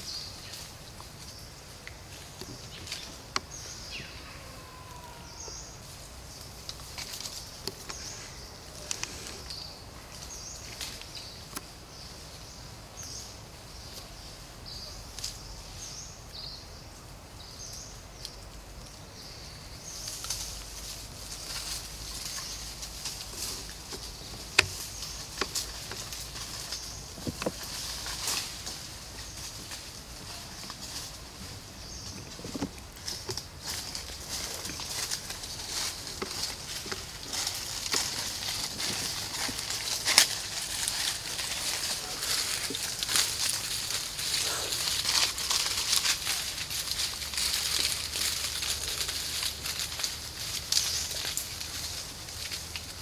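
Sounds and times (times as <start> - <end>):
twigs and leaves rustling: 0.0 - 16.4, 17.4 - 53.0.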